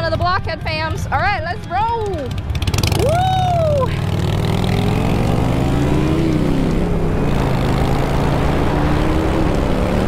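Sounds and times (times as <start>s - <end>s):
motorcycle engine revving: 1.9s - 10.0s.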